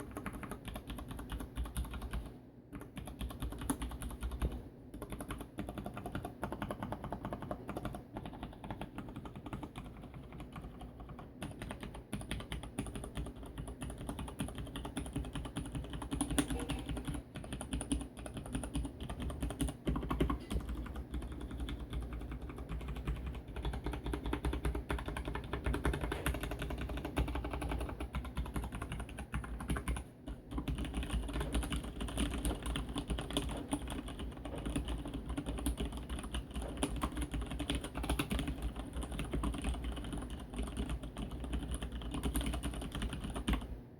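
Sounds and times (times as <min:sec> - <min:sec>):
mechanical keyboard typing: 0:00.0 - 0:43.8.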